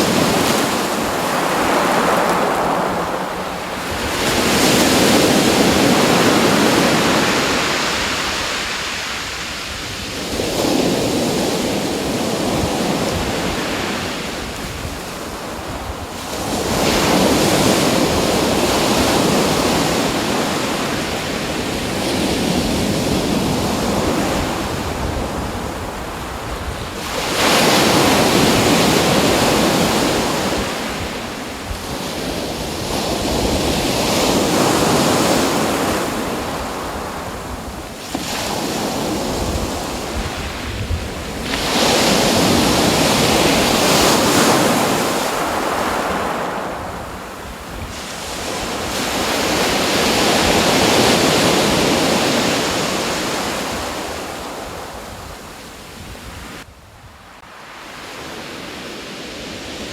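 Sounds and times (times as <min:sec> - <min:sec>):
ocean waves breaking: 0:00.0 - 0:56.6
wind: 0:00.0 - 0:59.9.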